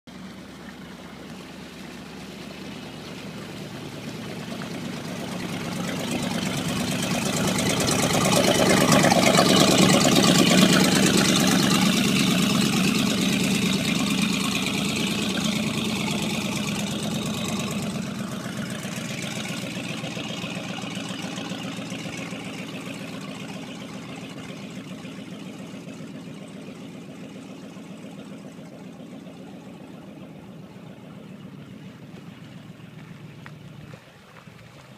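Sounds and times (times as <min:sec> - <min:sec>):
motorboat engine running: 0:00.0 - 0:34.9.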